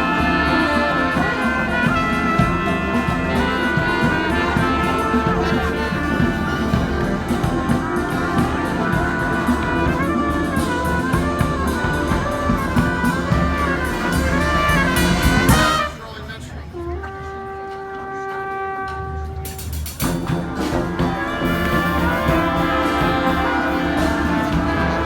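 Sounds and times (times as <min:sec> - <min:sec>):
steady drum beats: 0:00.0 - 0:16.1, 0:18.2 - 0:25.0
brass band playing: 0:00.0 - 0:25.0
horns playing wavering melody: 0:00.0 - 0:25.0.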